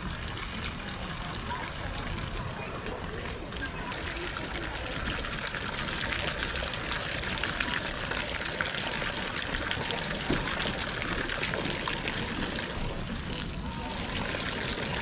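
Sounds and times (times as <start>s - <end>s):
water pouring into a tub: 0.0s - 15.0s.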